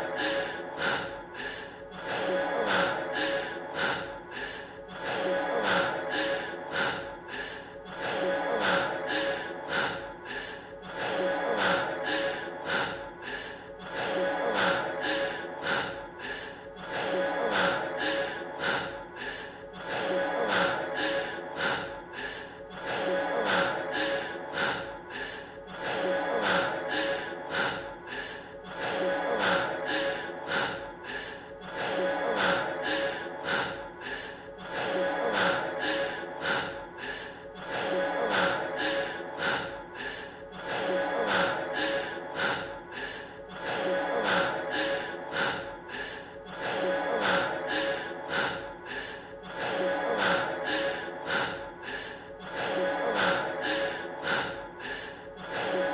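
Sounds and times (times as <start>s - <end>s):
man panting heavily: 0.0s - 55.9s.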